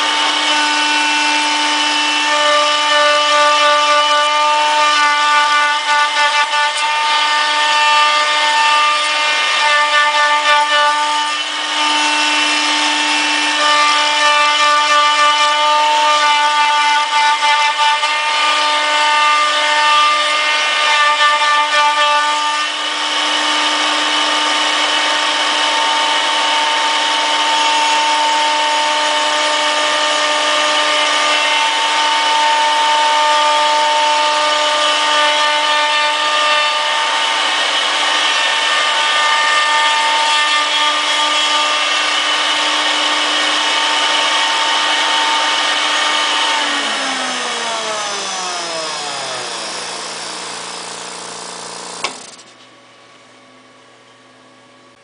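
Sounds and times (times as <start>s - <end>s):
router spindle whining: 0.0s - 52.7s.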